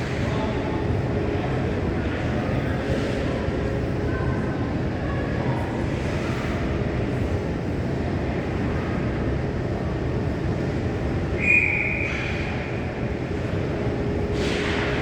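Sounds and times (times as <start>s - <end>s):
ice rink ambience rumble: 0.0s - 15.0s.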